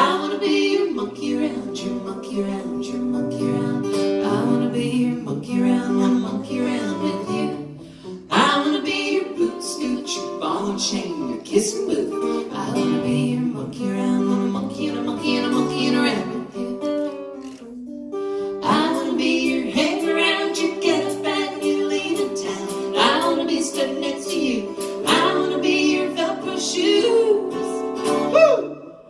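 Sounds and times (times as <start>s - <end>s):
person singing: 0.0s - 17.2s, 18.5s - 29.0s
strummed acoustic guitar: 0.0s - 28.4s.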